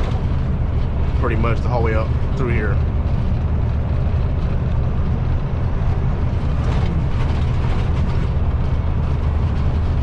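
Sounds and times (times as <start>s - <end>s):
road noise: 0.0s - 10.0s
truck diesel engine rumble: 0.0s - 10.0s.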